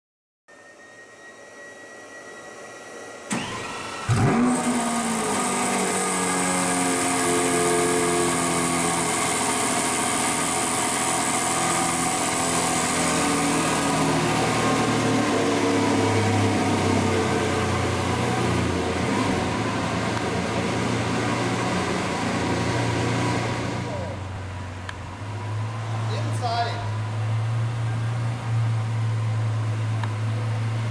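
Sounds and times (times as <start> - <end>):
car engine starting and idling: 2.8 - 30.9.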